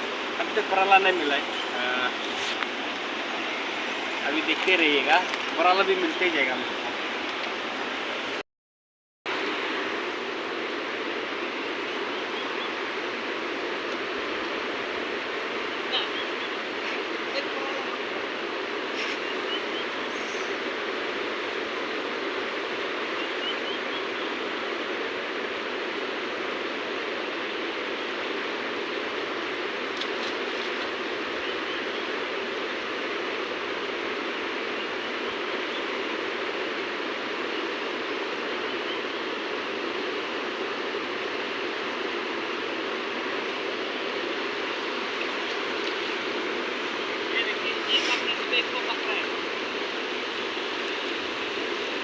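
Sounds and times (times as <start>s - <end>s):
flowing river water: 0.0s - 8.4s, 9.3s - 52.0s.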